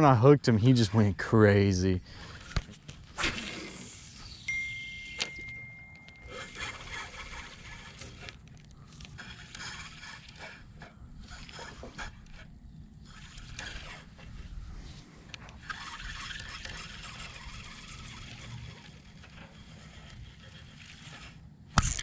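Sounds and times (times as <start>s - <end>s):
fishing reel whirring: 2.0s - 22.0s.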